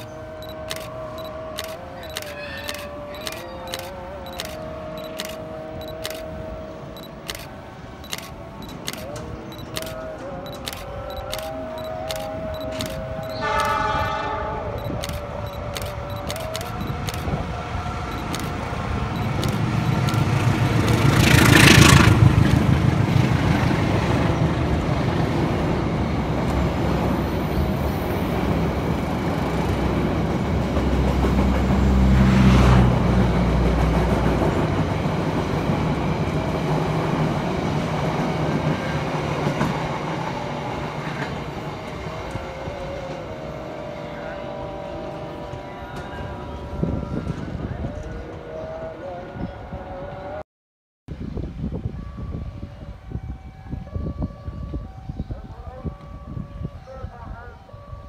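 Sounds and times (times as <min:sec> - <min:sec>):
diesel locomotive passing: 0:00.0 - 0:50.4.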